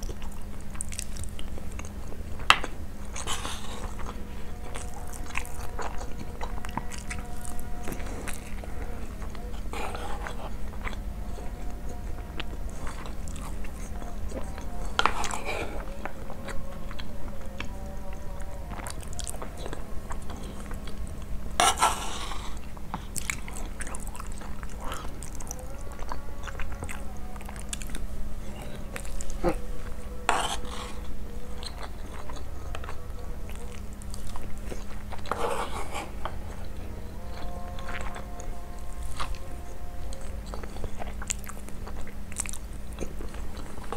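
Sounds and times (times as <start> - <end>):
chewing and mouth sounds: 0.0 - 43.9
faint steady hum: 0.0 - 43.9.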